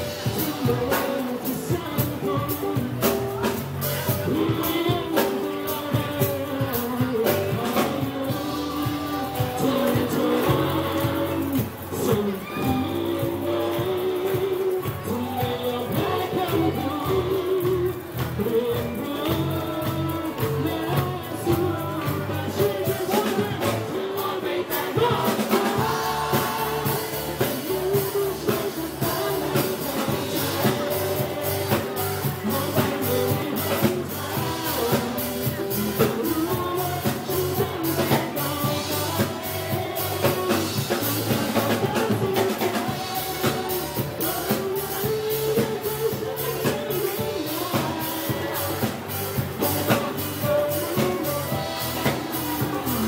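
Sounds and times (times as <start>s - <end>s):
drums and cymbals: 0.0s - 53.0s
live pop-rock band: 0.0s - 53.0s
male singers: 0.0s - 53.0s.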